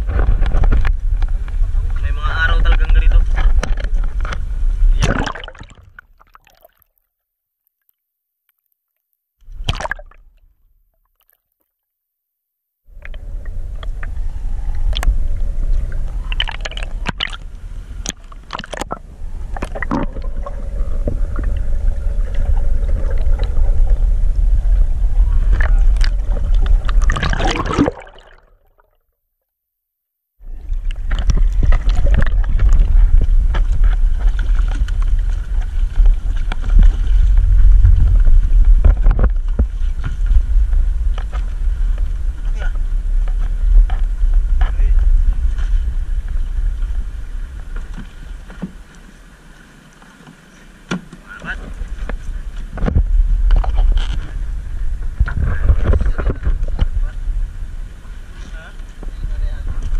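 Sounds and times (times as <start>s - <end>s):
underwater rumble: 0.0s - 6.4s, 9.4s - 10.8s, 12.9s - 29.0s, 30.4s - 59.9s
rushing gurgling water: 0.0s - 6.8s, 9.5s - 10.4s, 12.9s - 28.8s, 30.4s - 59.9s.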